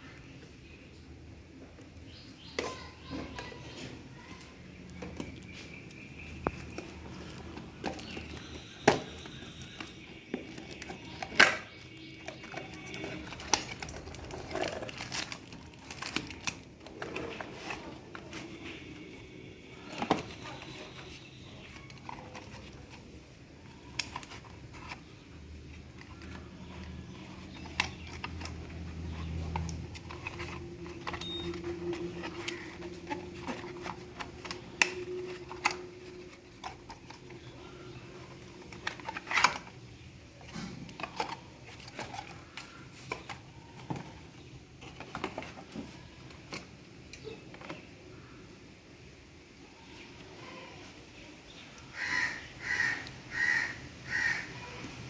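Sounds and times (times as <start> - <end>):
small hard parts clicking and knocking: 1.7 - 48.1.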